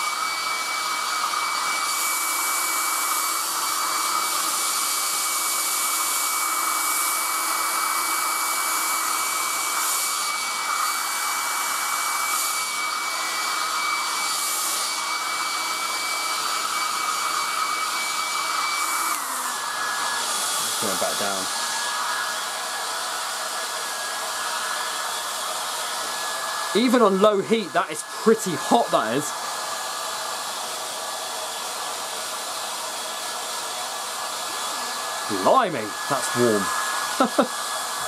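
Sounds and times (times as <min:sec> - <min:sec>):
hair dryer running: 0:00.0 - 0:38.0.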